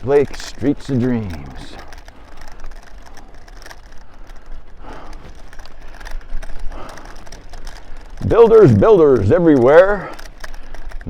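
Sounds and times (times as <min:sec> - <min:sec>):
bike ticking and rattling: 0:00.0 - 0:11.0
road noise: 0:00.0 - 0:11.0.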